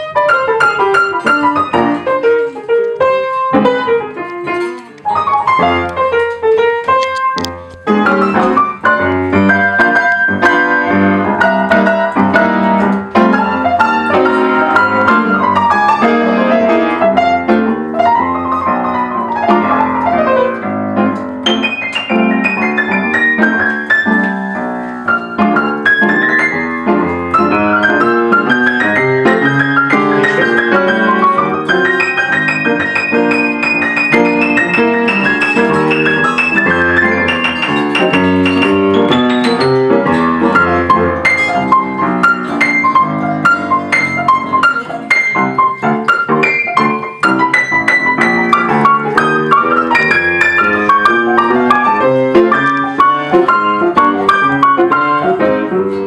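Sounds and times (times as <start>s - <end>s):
piano improvisation: 0.0s - 56.0s.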